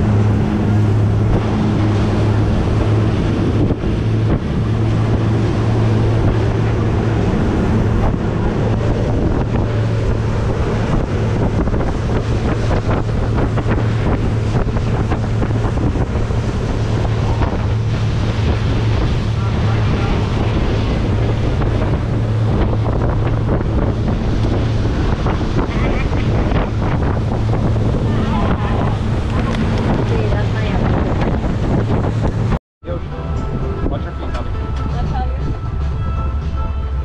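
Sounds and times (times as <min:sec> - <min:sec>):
motorboat engine drone: 0:00.0 - 0:37.0
water rushing past hull: 0:00.0 - 0:37.0
wind buffeting microphone: 0:00.0 - 0:37.0.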